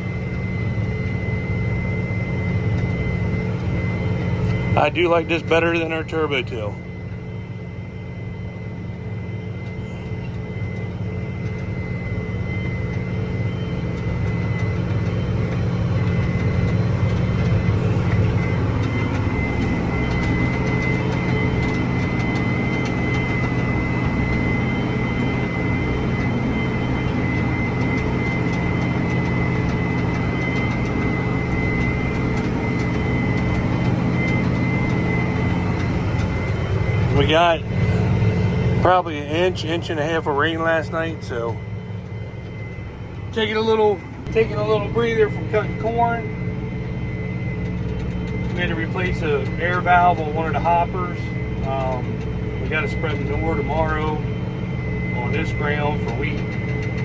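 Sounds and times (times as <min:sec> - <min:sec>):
tractor diesel engine under load: 0:00.0 - 0:06.9, 0:09.6 - 0:57.0
high engine whine: 0:00.0 - 0:57.0.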